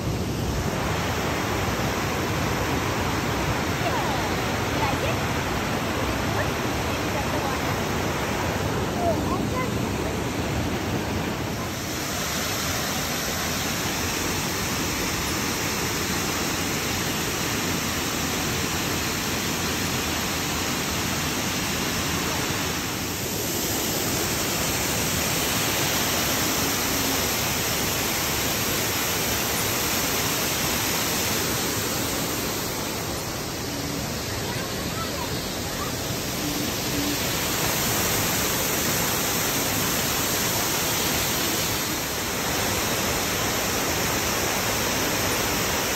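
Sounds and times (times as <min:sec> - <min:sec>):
waterfall roaring: 0:00.0 - 0:45.9.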